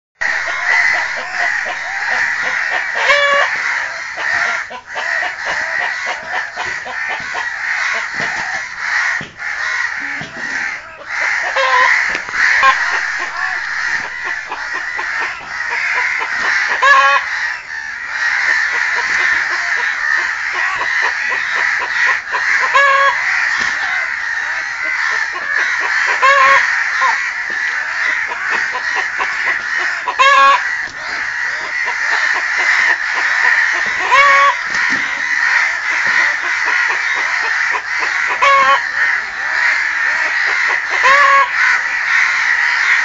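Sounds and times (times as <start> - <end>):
crow cawing: 0.2 - 43.0
hen clucking and squawking: 0.2 - 43.0.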